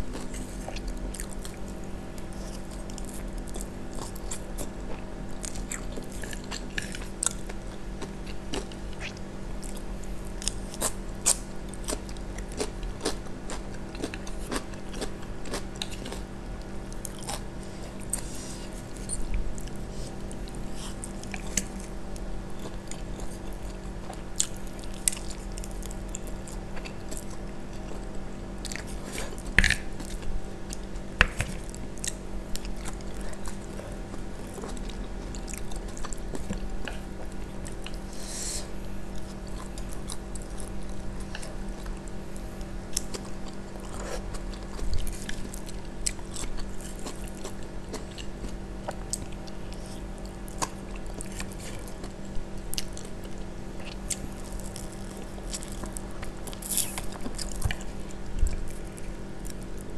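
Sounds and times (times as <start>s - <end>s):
person chewing noodles: 0.0s - 59.9s.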